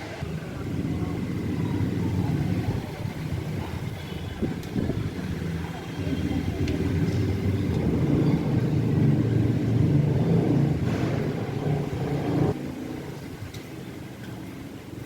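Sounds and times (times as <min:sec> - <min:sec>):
vehicle engine running: 0:00.3 - 0:13.2.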